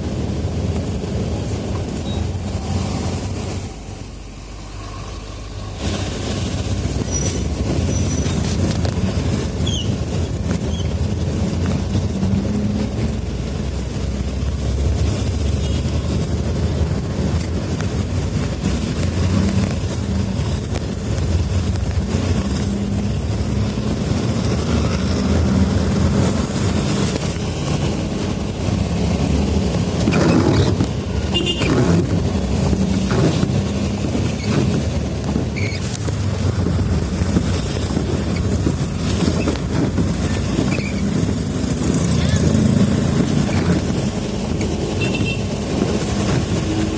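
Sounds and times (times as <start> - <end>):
road noise: 0.0 - 46.9
road vehicle engine rumble: 0.0 - 46.9.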